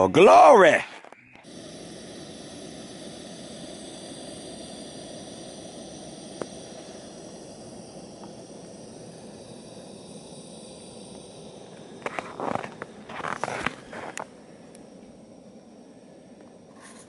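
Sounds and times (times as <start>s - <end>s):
steady hissing: 0.0s - 17.0s.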